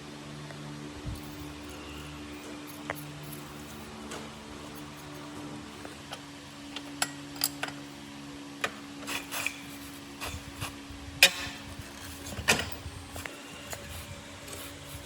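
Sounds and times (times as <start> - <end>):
steady low hum: 0.0 - 15.0
metal tools clinking: 1.2 - 8.0, 9.0 - 15.0.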